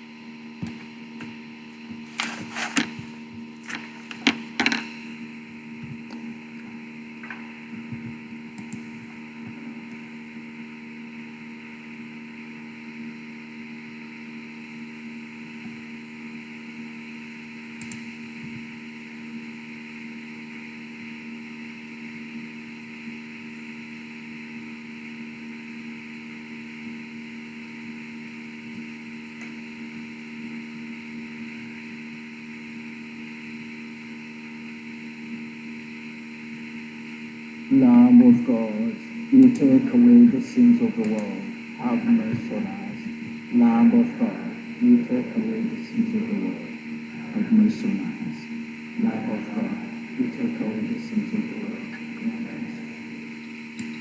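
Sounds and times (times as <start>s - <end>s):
electrical hum and hiss: 0.0s - 54.0s.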